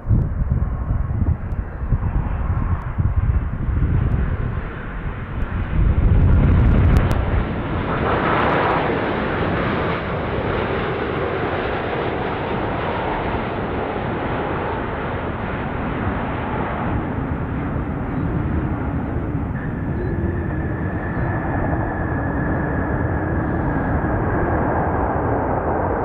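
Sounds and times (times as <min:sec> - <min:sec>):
jet airliner engine rumble: 0:00.0 - 0:26.0.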